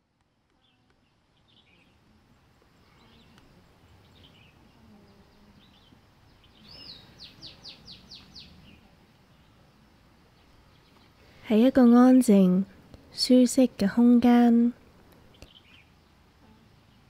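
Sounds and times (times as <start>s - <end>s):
wild birds chirping: 0.3s - 17.0s.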